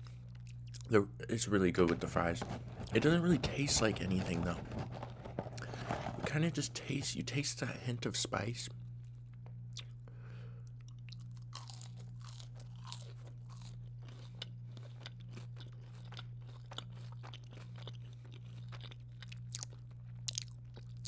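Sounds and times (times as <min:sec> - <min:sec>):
chewing and crunching food: 0:00.0 - 0:07.2, 0:09.0 - 0:21.0
low electrical hum: 0:00.0 - 0:21.0.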